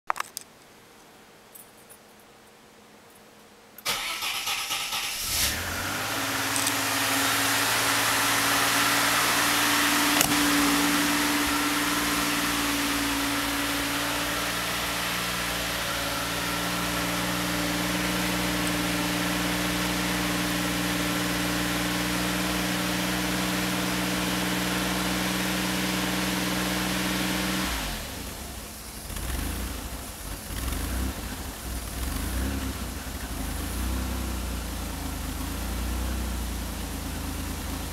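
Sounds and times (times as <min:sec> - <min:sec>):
car engine starting and idling: 0:03.8 - 0:37.9.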